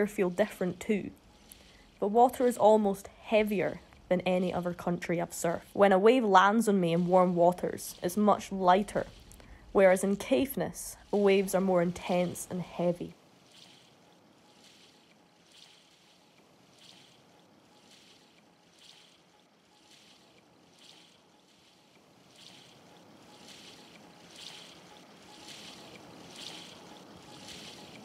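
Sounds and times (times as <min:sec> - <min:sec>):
soft swishing hiss: 0:00.0 - 0:28.0.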